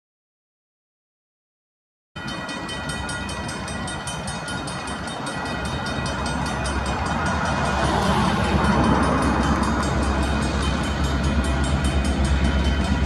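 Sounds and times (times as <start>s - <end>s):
level crossing bell ringing: 2.2s - 13.0s
train rumble: 2.2s - 13.0s.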